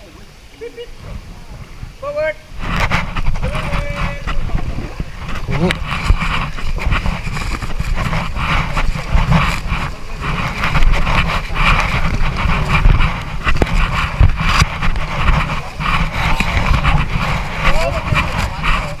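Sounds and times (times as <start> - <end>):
river water rushing and splashing: 0.0 - 19.0
wind buffeting microphone: 0.0 - 19.0.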